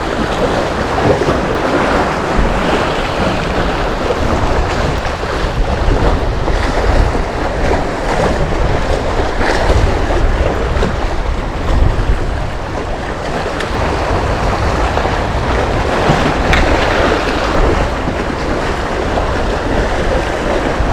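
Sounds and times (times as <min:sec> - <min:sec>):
heavy low rumble: 0:00.0 - 0:20.9
sea waves: 0:00.0 - 0:20.9
wind buffeting microphone: 0:00.0 - 0:20.9.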